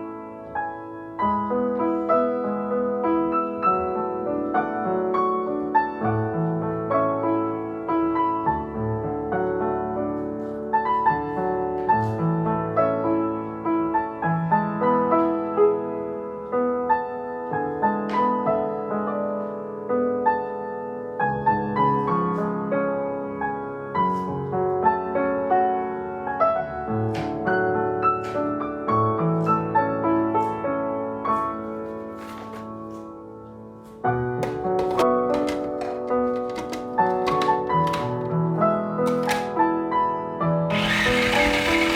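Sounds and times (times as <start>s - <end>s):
solo piano music: 0.0s - 41.0s.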